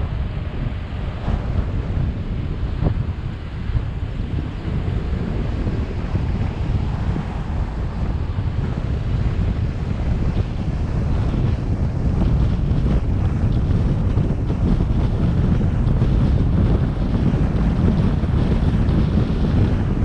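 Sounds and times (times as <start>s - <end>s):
car driving rumble: 0.0s - 20.0s
wind buffeting microphone: 0.0s - 20.0s.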